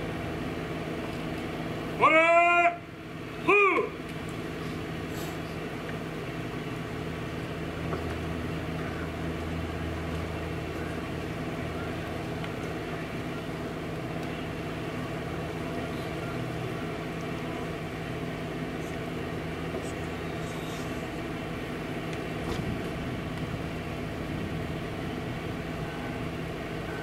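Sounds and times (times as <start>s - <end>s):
engine humming at idle: 0.0s - 27.0s
outdoor background noise: 0.0s - 27.0s.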